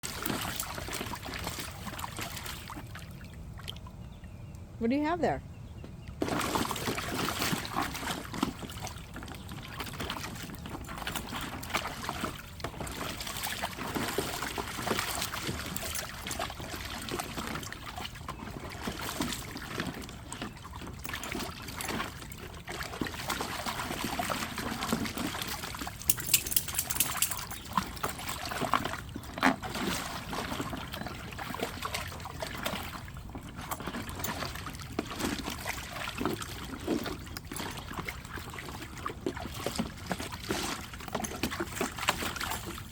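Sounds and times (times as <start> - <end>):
water sloshing and splashing: 0.0 - 4.4, 6.2 - 42.9.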